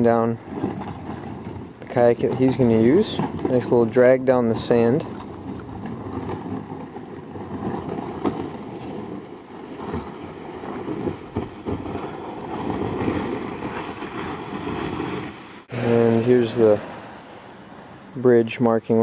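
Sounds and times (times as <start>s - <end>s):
kayak hull knocks: 0.0s - 15.4s
kayak scraping over gravel: 0.0s - 18.0s.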